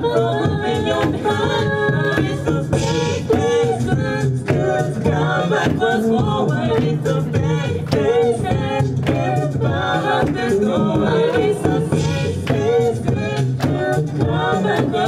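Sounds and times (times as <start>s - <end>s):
a cappella group singing: 0.0s - 15.0s
vocal percussion beat: 0.0s - 15.0s.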